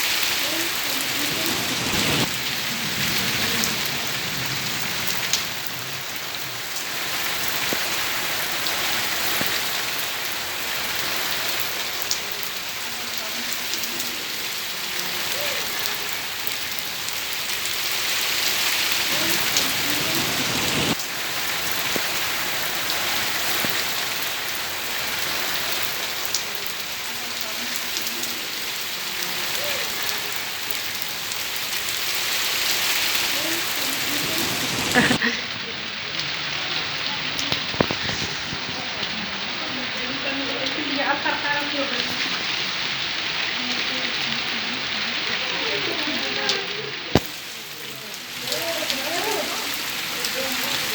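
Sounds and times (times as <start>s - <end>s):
rain splashing on hard surfaces: 0.0s - 50.9s.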